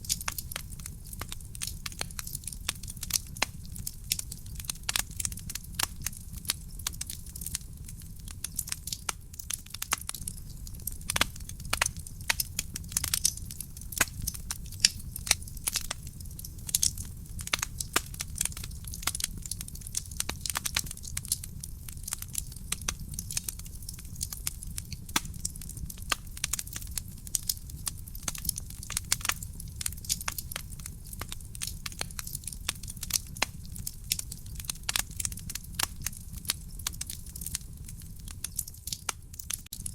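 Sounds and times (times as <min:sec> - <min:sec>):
burning logs crackling and popping: 0:00.0 - 0:39.9
flames low rumble: 0:00.0 - 0:39.9.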